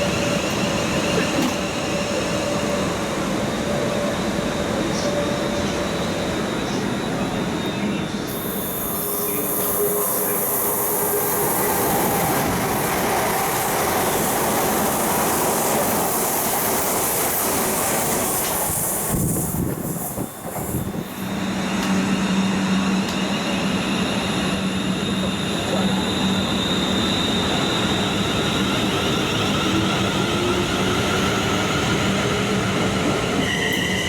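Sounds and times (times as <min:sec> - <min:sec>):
train wheel-on-rail noise: 0:00.0 - 0:34.0.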